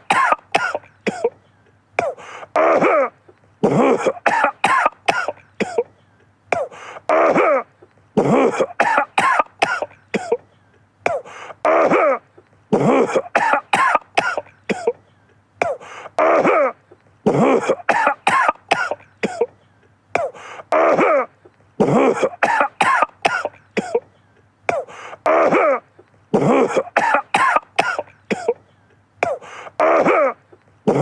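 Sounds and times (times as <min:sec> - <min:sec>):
man coughing: 0:00.0 - 0:19.6, 0:20.2 - 0:31.0.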